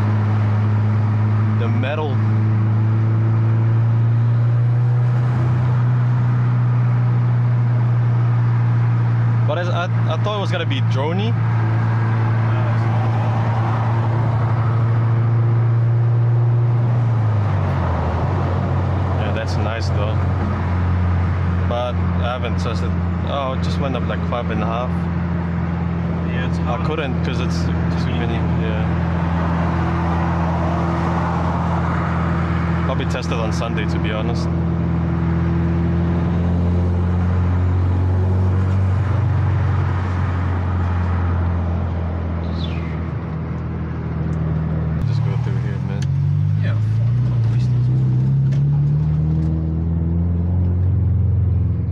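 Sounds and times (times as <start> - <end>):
car engine drone from inside: 0.0 - 51.9.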